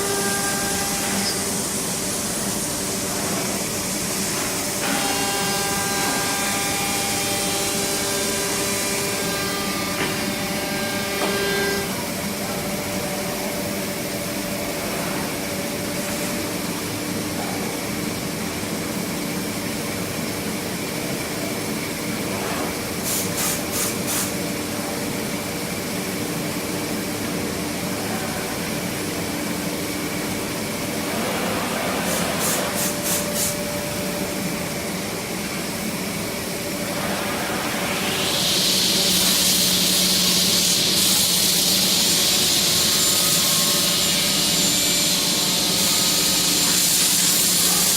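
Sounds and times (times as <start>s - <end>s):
cnc machine whine and hiss: 0.0s - 47.9s.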